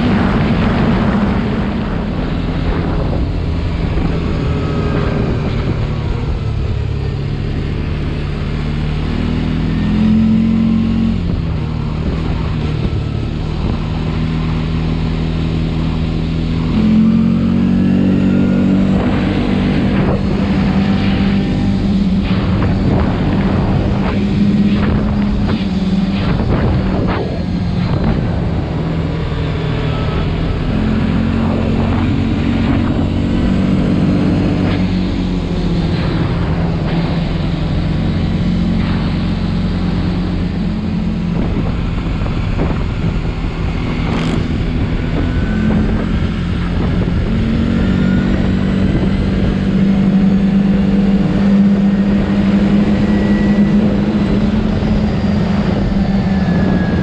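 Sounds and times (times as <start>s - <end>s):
atv engine running: 0.0s - 57.0s
wind rushing over microphone: 0.0s - 57.0s.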